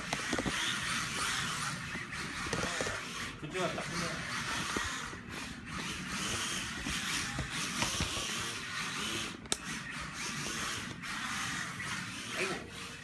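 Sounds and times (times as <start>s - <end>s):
small electric motors hissing: 0.0s - 13.0s.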